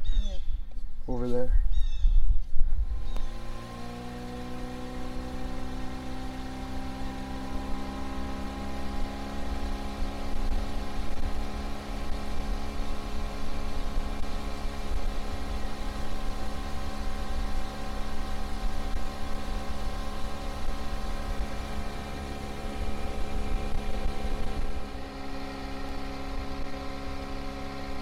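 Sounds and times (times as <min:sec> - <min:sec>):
outboard motor running: 0:02.8 - 0:28.0.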